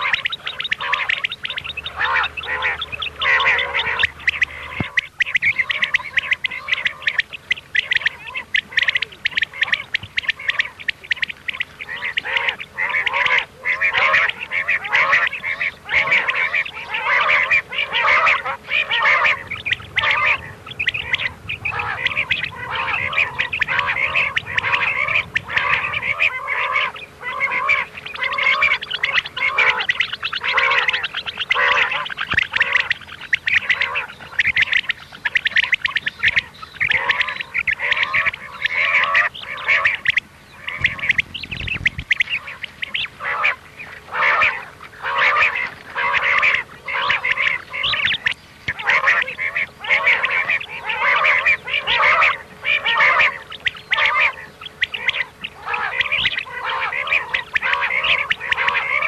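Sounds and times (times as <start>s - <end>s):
quails calling: 0.0s - 59.0s.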